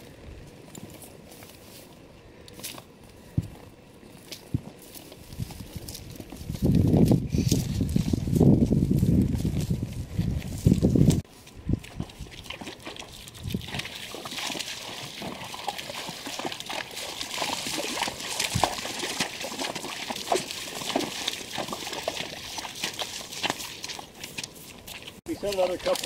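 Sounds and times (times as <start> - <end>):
hooves splashing through water: 0.5 - 26.0.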